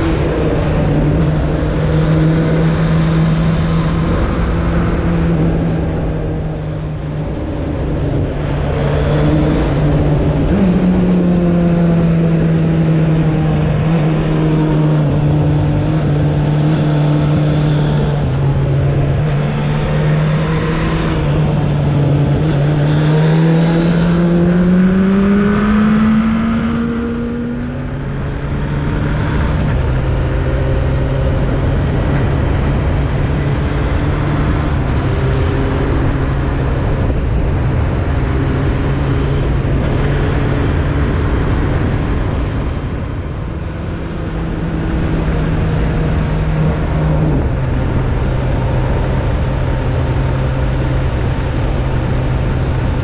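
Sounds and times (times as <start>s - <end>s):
road noise: 0.0s - 53.0s
wind noise: 0.0s - 53.0s.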